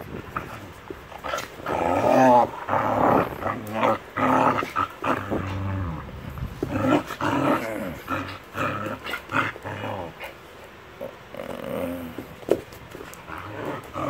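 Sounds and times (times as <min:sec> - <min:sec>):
small dogs growling and snarling: 0:00.0 - 0:14.0.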